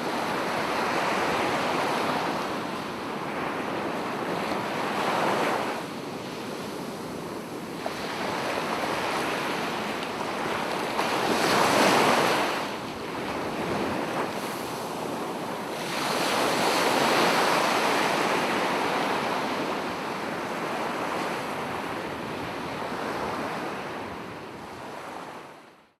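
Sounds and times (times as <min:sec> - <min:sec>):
ocean waves breaking: 0:00.0 - 0:25.3.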